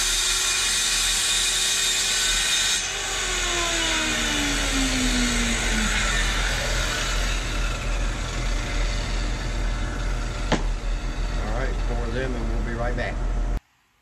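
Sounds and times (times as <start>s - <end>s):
circular saw spinning down: 0.0s - 13.6s.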